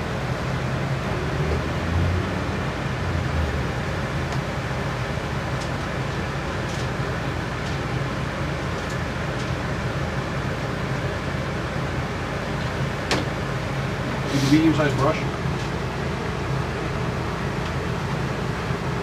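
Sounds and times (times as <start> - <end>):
machinery humming and hissing: 0.0 - 19.0.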